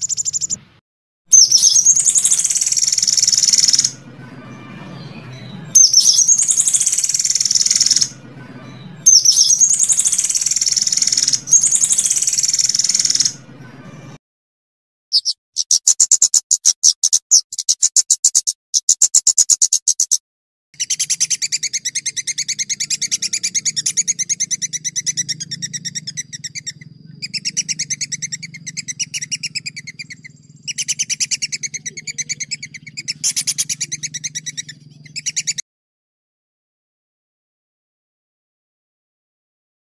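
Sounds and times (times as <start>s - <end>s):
songbird trilling: 0.0s - 0.6s, 1.3s - 14.1s, 15.1s - 20.2s, 20.8s - 35.6s.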